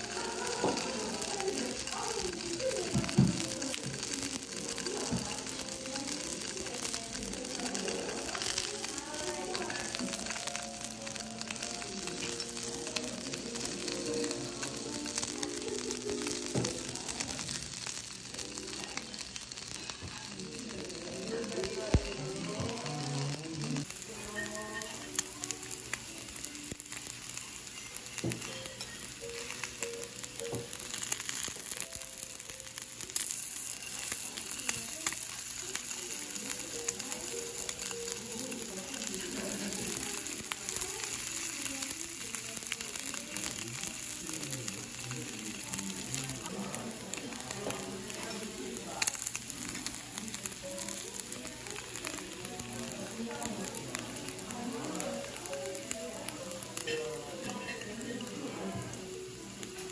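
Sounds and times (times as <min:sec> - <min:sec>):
beef sizzling on a grill: 0:00.0 - 0:59.9
soft background music: 0:01.2 - 0:19.0, 0:20.5 - 0:59.9.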